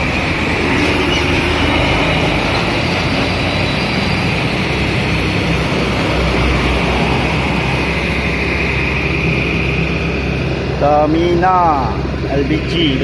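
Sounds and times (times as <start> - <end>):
trucks driving past: 0.0 - 13.0.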